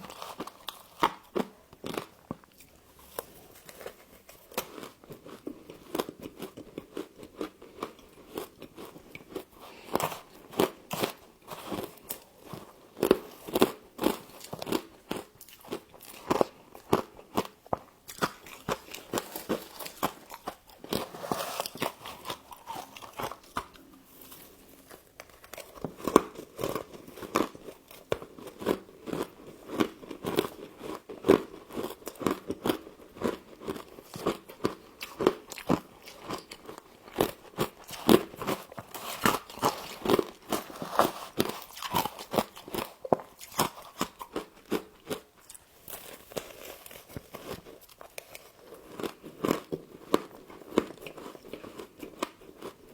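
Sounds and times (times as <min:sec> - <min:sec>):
crunching and chewing frost: 0:00.0 - 0:52.9.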